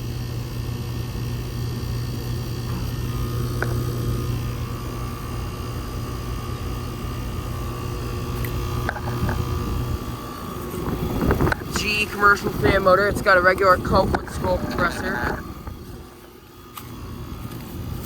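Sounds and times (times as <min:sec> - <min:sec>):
air conditioner unit humming: 0:00.0 - 0:18.0.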